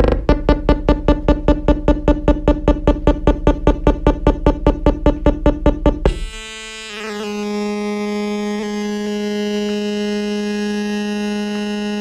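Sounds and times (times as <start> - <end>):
synthesizer fast pulsing tone: 0.0 - 10.6
synthesizer drone: 0.0 - 12.0.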